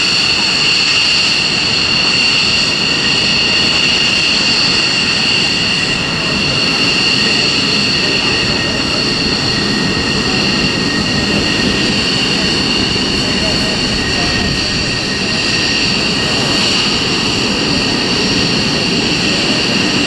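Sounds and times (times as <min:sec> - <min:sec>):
jet engine turbine whine: 0:00.0 - 0:20.0
rush of jet noise: 0:00.0 - 0:20.0.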